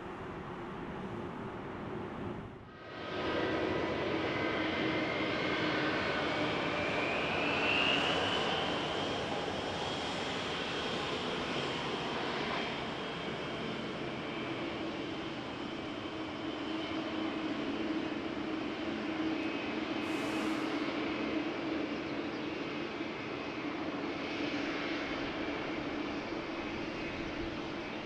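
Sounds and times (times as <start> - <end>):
jet engines rushing and whining: 0.0 - 28.0.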